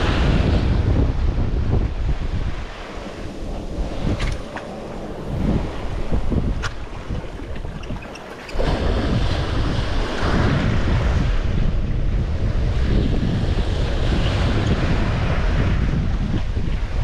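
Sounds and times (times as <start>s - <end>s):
sea surf: 0.0s - 17.0s
wind buffeting microphone: 0.0s - 17.0s.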